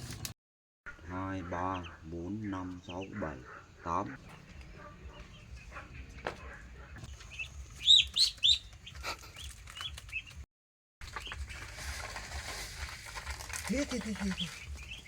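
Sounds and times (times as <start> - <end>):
ducklings peeping: 0.9 - 10.4, 11.0 - 15.0.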